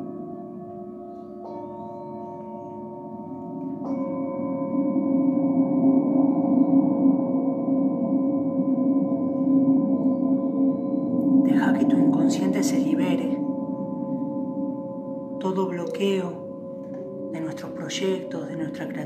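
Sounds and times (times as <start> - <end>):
singing bowl strike: 0.0 - 18.7
low hum: 0.0 - 19.0
singing bowls ringing: 0.0 - 19.0.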